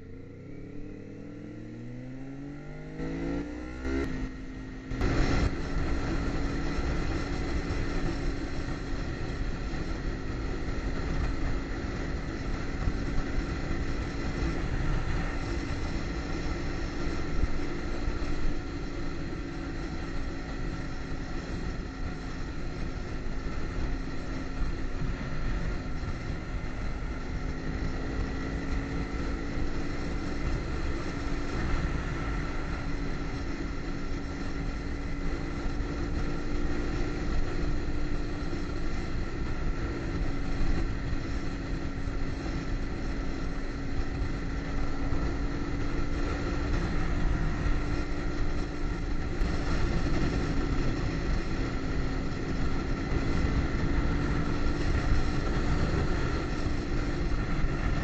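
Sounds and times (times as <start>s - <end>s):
motorcycle engine cruising: 0.0s - 58.0s
wind noise: 0.6s - 58.0s.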